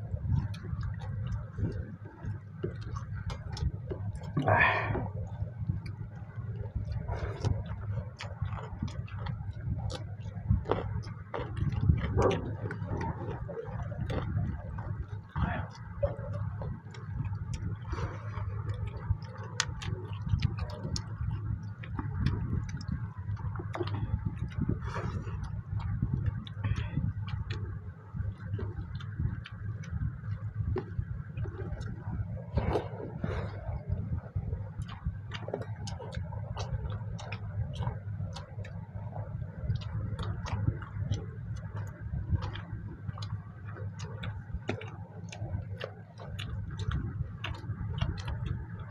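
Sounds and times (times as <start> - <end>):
chewing: 0.0 - 48.9
steady low hum: 0.0 - 48.9.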